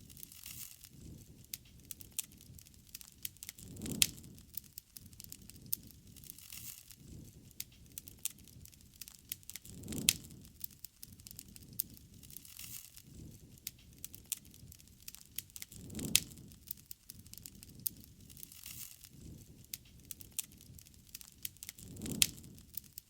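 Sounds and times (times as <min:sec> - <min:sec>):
bonfire crackling and popping: 0:00.0 - 0:23.0
fire flaring with low rush: 0:00.0 - 0:23.0.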